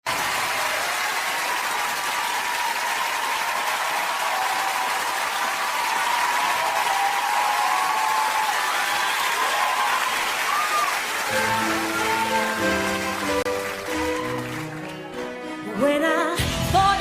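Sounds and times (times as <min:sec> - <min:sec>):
audience applauding: 0:00.0 - 0:15.6
high wavering cheers: 0:00.6 - 0:15.2.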